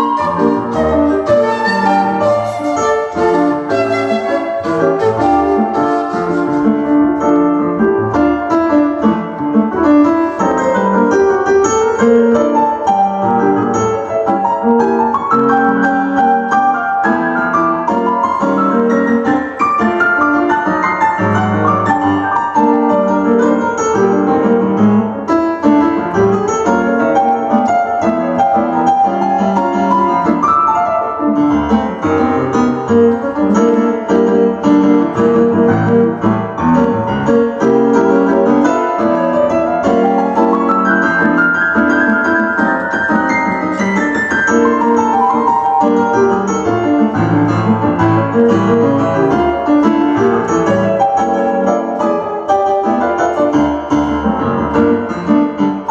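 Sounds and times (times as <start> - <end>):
piano arpeggios: 0.0 - 55.9.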